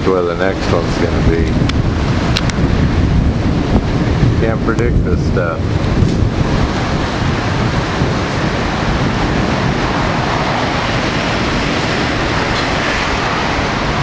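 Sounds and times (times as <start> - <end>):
storm wind on microphone: 0.0 - 14.0.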